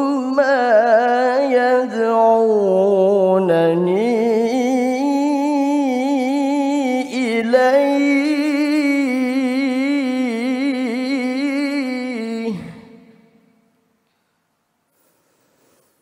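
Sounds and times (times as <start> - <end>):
man reciting with vibrato: 0.0 - 13.6.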